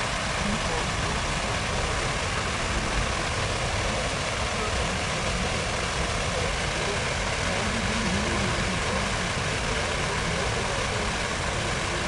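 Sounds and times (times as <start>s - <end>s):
fountain water rushing: 0.0s - 12.0s
faint voices: 0.2s - 12.0s.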